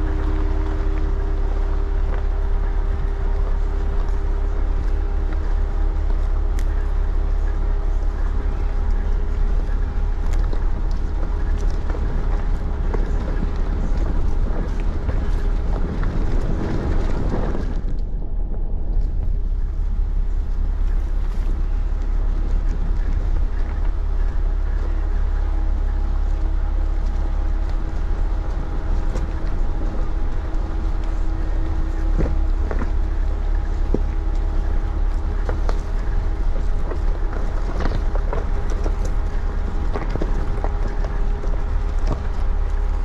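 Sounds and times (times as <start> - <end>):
clicks and knocks from gravel: 0.0 - 43.0
engine and tyres rumbling: 0.0 - 43.0.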